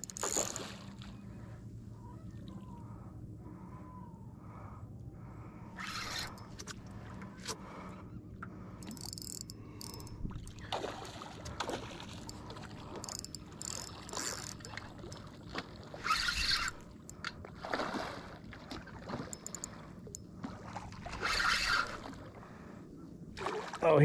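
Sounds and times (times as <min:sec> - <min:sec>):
water lapping against hull: 0:00.0 - 0:24.0.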